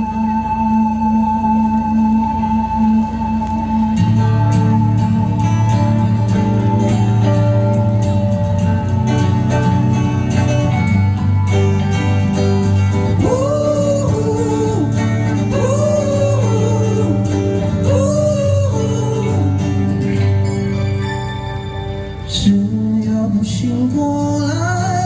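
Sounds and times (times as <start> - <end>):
bass chords: 0.0 - 25.0
guitar chords: 0.0 - 25.0
lead melody: 0.0 - 25.0.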